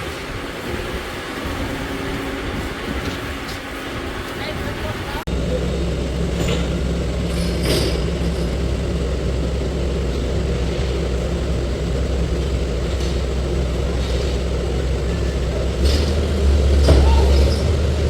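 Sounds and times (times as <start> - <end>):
faint rattles: 0.0 - 18.0
vehicle engine running: 0.0 - 18.0.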